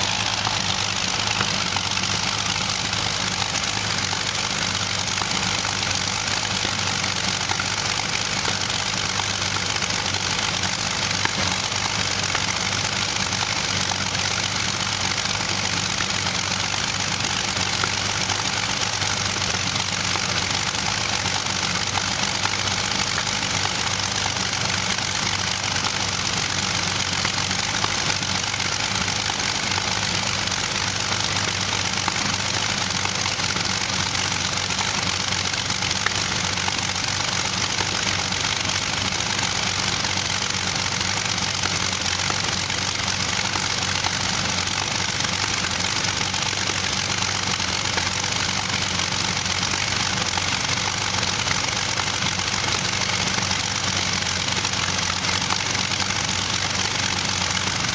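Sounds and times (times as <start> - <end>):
aircraft engine idling: 0.0 - 57.9.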